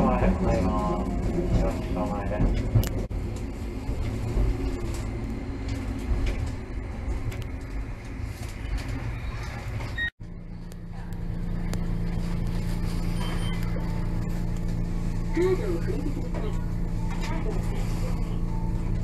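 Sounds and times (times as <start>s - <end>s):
streetcar low hum: 0.0s - 19.0s
streetcar rumbling on track: 0.0s - 19.0s.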